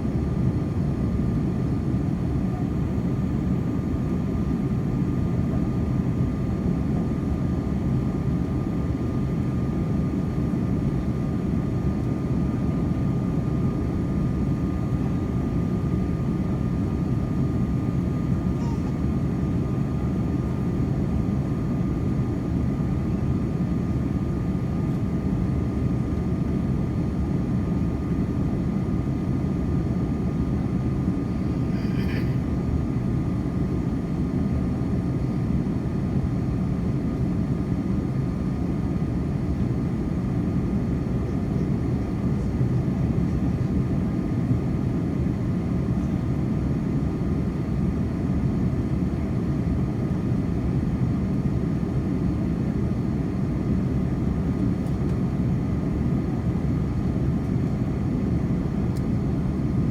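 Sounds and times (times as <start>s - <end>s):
airplane cabin engine drone: 0.0s - 59.9s.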